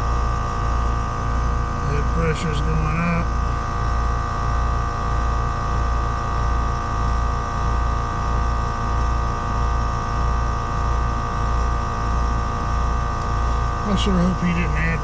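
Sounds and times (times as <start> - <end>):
heat pump compressor and fan hum: 0.0 - 15.0.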